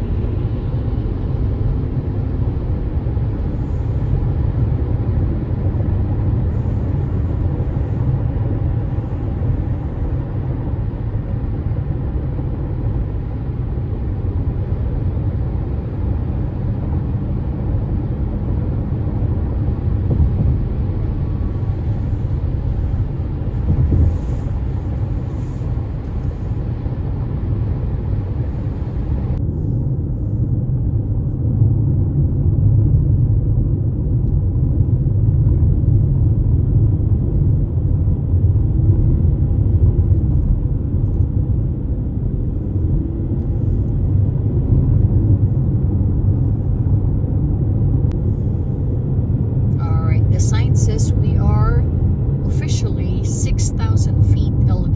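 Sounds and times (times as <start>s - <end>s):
car interior road rumble: 0.0s - 54.9s.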